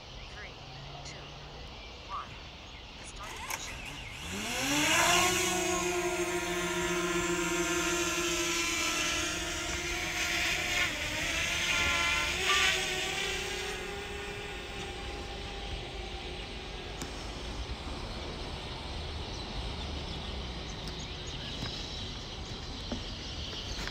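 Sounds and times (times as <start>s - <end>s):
drone propellers whining: 0.0s - 23.9s.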